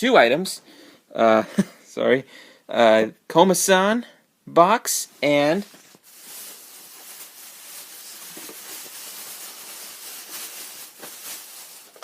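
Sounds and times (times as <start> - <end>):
faint steady hissing: 0.0 - 12.0.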